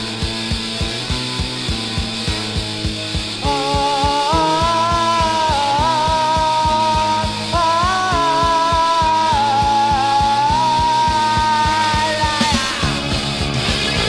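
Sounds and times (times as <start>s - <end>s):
fast drumbeat: 0.0s - 14.0s
melodic lead guitar line: 0.0s - 14.0s.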